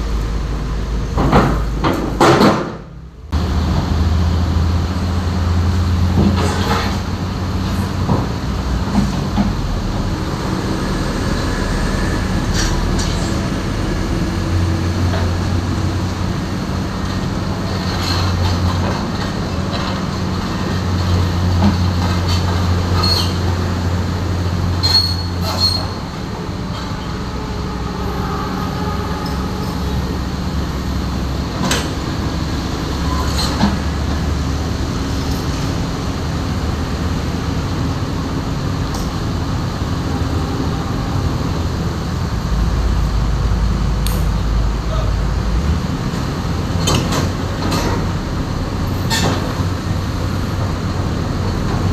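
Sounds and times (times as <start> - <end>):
excavator diesel engine running: 0.0 - 51.9
steel crawler tracks squealing: 5.6 - 42.8, 46.0 - 51.9.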